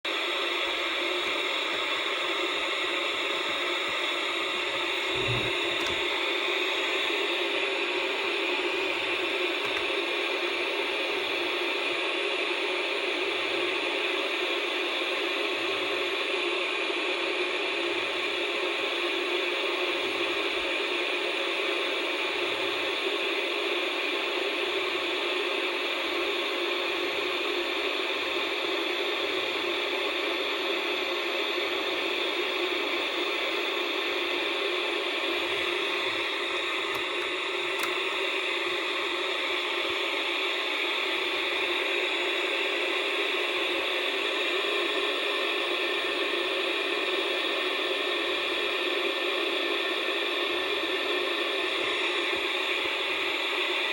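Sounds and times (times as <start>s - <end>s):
tv static hiss: 0.1s - 12.5s, 13.2s - 53.9s.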